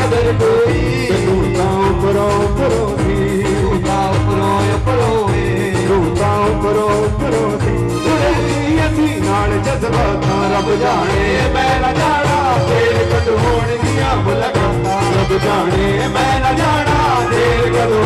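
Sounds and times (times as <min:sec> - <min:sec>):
driving beat and bass: 0:00.0 - 0:18.0
electronic keyboards: 0:00.0 - 0:18.0
man singing: 0:00.0 - 0:18.0.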